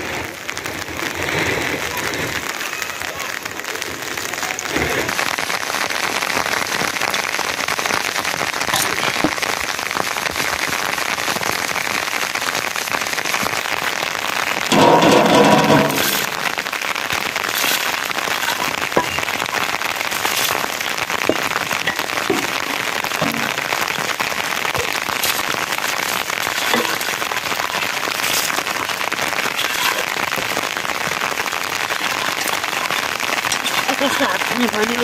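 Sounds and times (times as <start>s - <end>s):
steady rain falling: 0.0s - 35.0s
water poured into metal pots: 5.2s - 11.5s, 12.4s - 35.0s.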